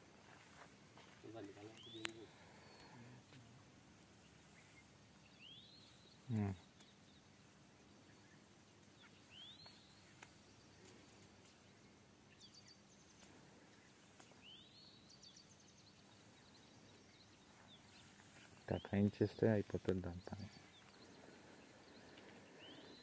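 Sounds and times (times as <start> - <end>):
faint outdoor ambience: 0.0 - 23.0.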